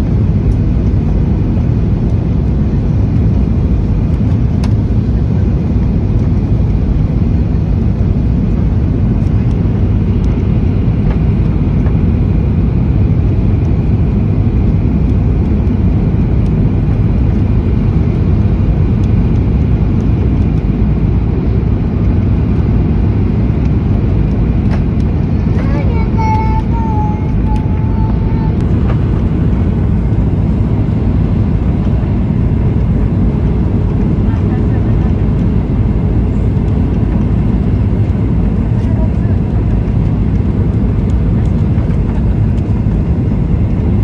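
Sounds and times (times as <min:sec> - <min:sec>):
jet airliner cabin roar: 0:00.0 - 0:44.0.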